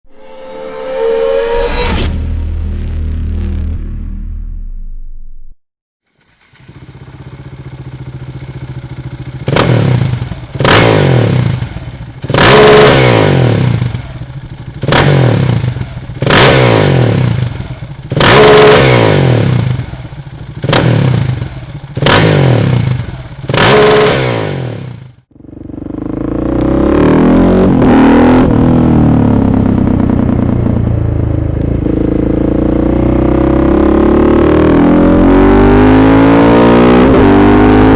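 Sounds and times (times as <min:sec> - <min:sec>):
motorcycle engine revving: 0:06.1 - 0:37.9.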